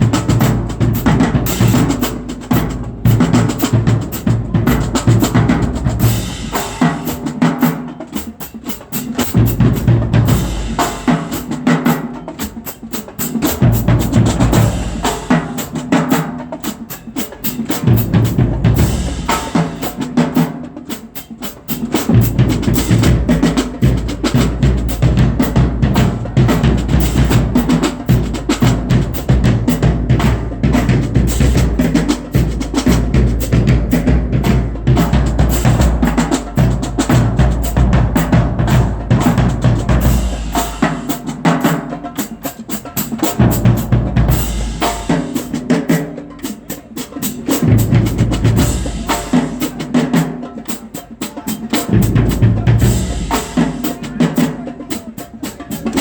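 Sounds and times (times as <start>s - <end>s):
marching drumline playing: 0.0s - 56.0s.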